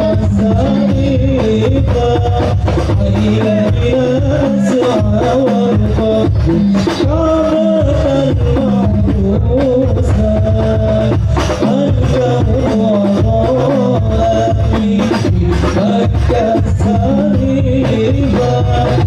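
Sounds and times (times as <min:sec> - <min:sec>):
frame drums beating: 0:00.0 - 0:19.0
man singing through a pa: 0:00.0 - 0:19.0.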